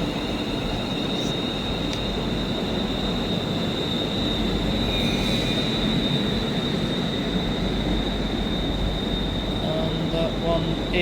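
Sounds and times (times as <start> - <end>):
train wheels squealing: 0.0 - 11.0.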